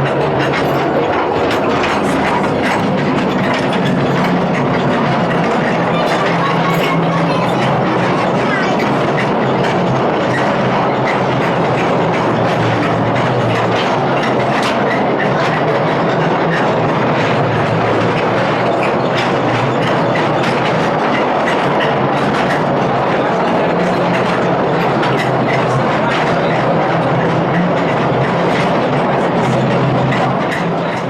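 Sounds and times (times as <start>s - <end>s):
rail car rumbling on track: 0.0s - 31.0s
wheels clattering on rails: 0.0s - 31.0s.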